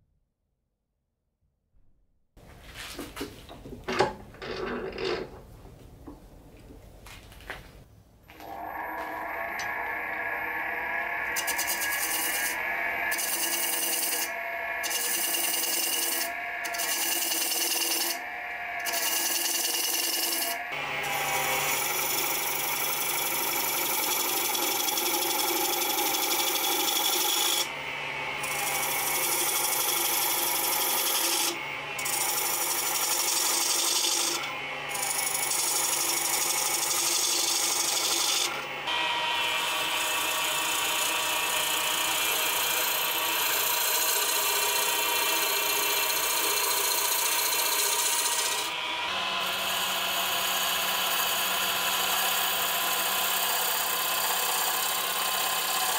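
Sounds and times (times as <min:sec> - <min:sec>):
lathe tool scraping wood: 0:08.3 - 0:55.9.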